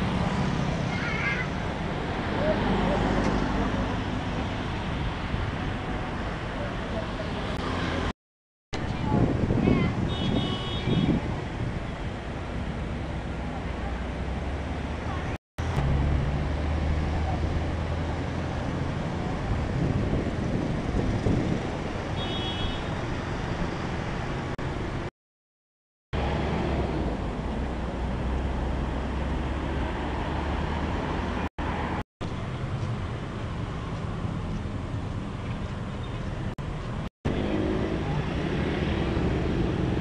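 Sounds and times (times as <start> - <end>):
road traffic noise: 0.0 - 8.2, 8.8 - 25.1, 26.1 - 40.0.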